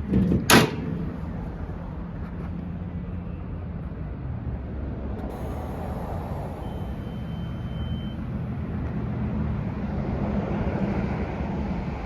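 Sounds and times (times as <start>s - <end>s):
low machinery hum: 0.0s - 10.2s.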